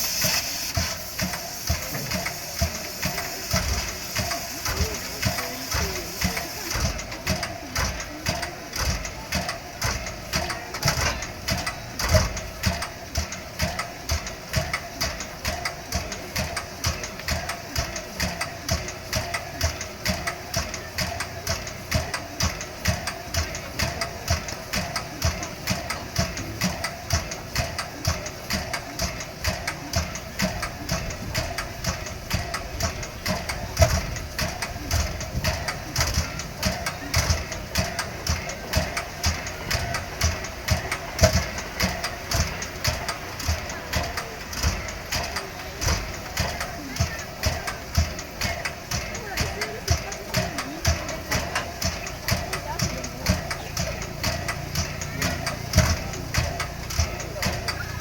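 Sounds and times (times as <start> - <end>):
steam pump pumping beat: 0.0 - 58.0.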